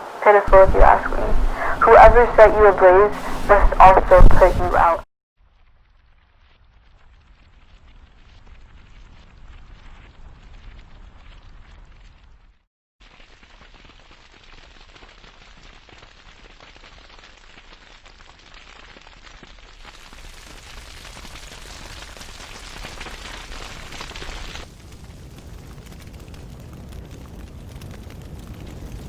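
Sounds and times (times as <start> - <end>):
fire crackling: 0.1 - 29.0.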